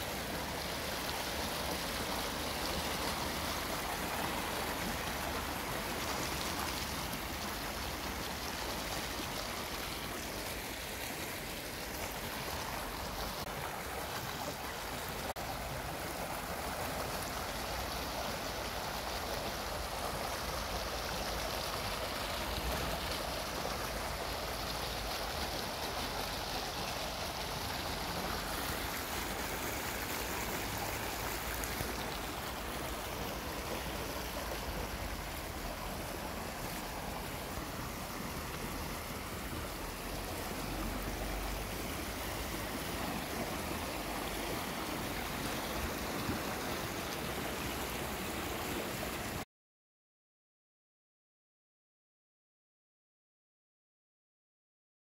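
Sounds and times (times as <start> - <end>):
stream water rushing over weirs: 0.0 - 49.5.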